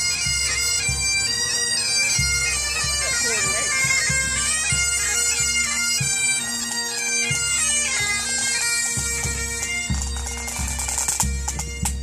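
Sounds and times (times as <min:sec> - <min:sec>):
bagpipes playing melody: 0:00.0 - 0:12.0.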